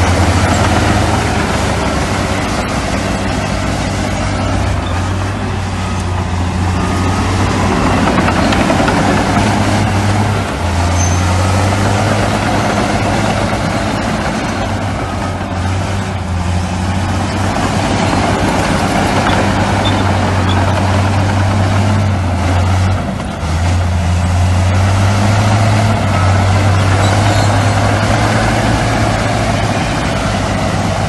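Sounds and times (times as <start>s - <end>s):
heavy diesel machinery engine drone: 0.0s - 31.0s.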